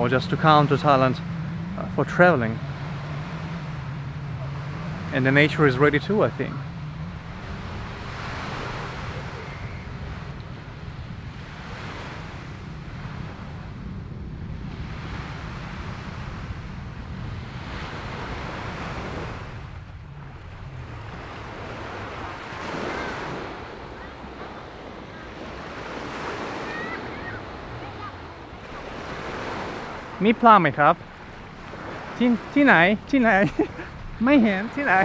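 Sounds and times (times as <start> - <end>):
sea waves washing onto beach: 0.0 - 35.0
wind rumbling on microphone: 0.0 - 35.0.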